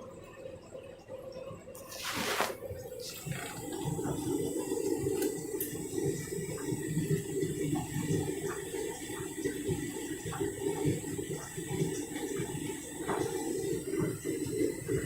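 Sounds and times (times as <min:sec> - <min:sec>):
washing machine water splashing: 0:00.0 - 0:15.0.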